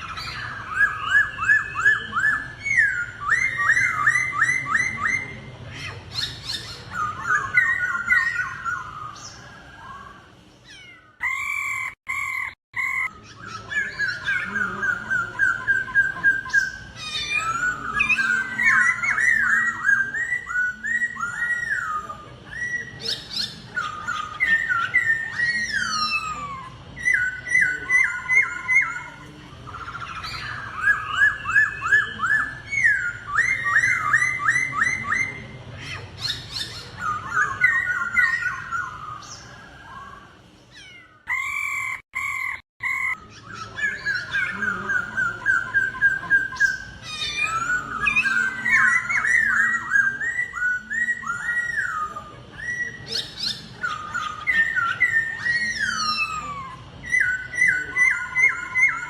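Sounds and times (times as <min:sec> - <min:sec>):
bird singing whistled notes: 0:00.0 - 0:05.5, 0:06.1 - 0:35.5, 0:41.3 - 0:59.0.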